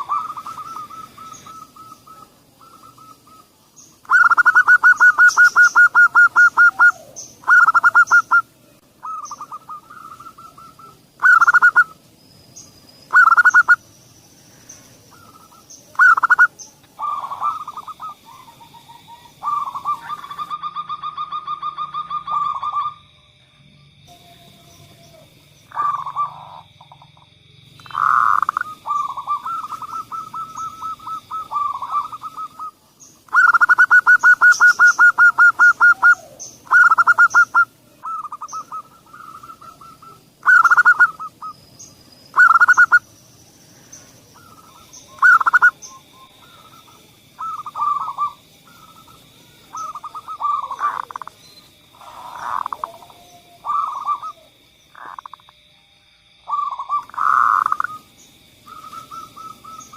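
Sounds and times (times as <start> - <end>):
dove cooing: 0.0 - 12.0, 13.1 - 13.8, 15.1 - 23.0, 24.1 - 27.1, 27.9 - 41.5, 42.4 - 43.0, 44.4 - 51.4, 52.0 - 55.3, 58.6 - 59.9.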